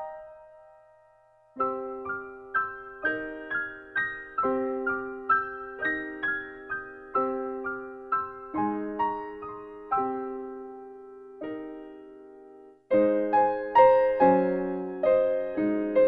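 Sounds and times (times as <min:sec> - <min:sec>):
slow gentle solo piano: 0:00.0 - 0:16.0.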